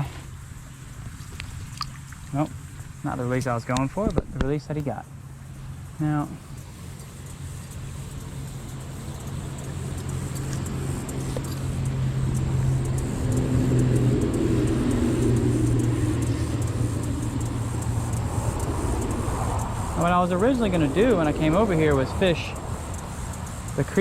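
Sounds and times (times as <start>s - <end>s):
vehicle engine hum: 0.0s - 24.0s.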